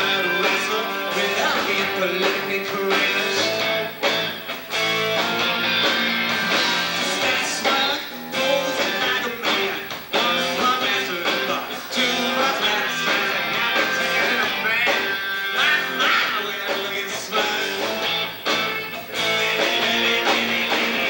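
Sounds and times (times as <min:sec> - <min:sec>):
person singing: 0:00.0 - 0:04.0, 0:06.8 - 0:18.1, 0:19.1 - 0:21.0
bass guitar: 0:00.0 - 0:21.0
drums: 0:00.0 - 0:21.0
electric guitars: 0:00.0 - 0:21.0.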